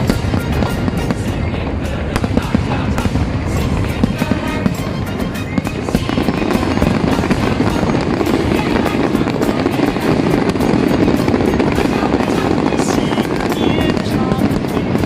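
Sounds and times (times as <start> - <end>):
fireworks bursting and crackling: 0.0 - 15.0
steady rumble: 0.0 - 15.0.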